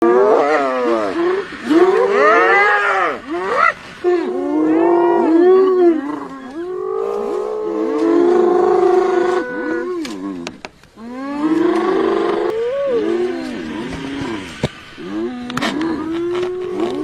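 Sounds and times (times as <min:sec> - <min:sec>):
hyenas wailing: 0:00.0 - 0:17.0.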